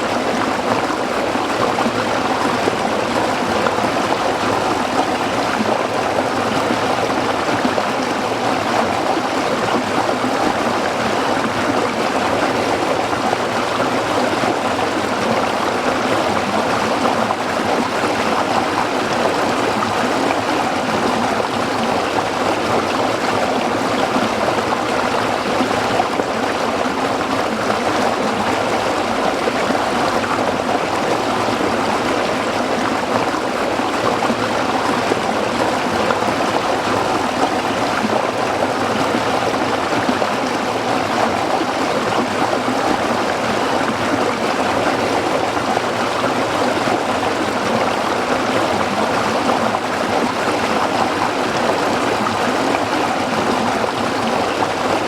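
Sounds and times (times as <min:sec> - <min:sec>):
small stream burbling over rocks: 0:00.0 - 0:55.0.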